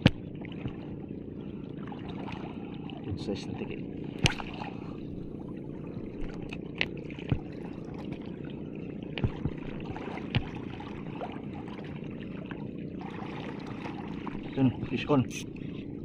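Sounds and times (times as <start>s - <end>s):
low rumble of water: 0.0s - 16.0s.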